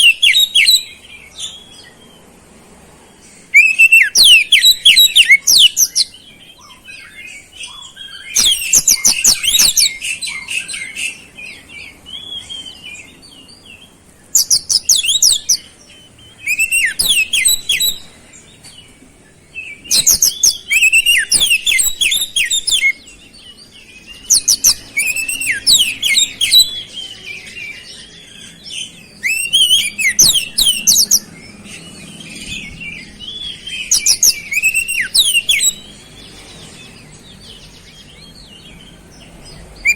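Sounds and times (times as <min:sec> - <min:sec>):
bird twittering: 0:00.0 - 0:02.2, 0:03.3 - 0:39.9
bird singing: 0:00.0 - 0:39.9.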